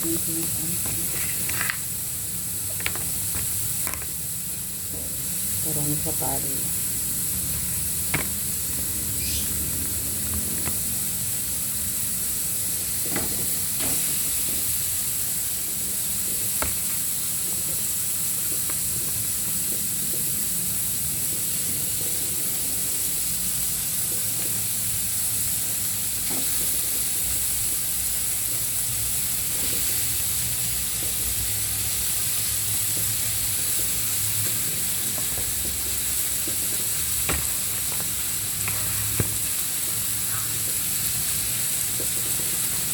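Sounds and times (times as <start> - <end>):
food sizzling in oil: 0.0 - 42.9.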